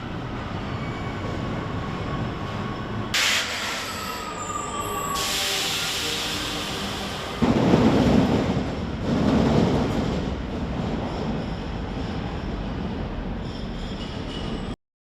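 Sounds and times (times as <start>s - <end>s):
metro train rumbling on rails: 0.0s - 14.8s.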